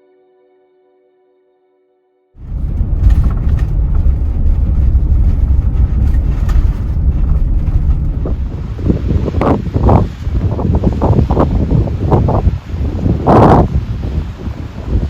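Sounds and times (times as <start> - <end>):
wind buffeting microphone: 2.4 - 15.0.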